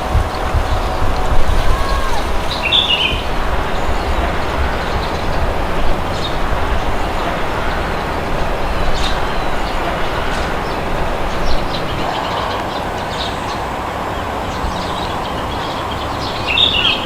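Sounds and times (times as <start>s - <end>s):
wind blowing with low rumble: 0.0s - 17.0s.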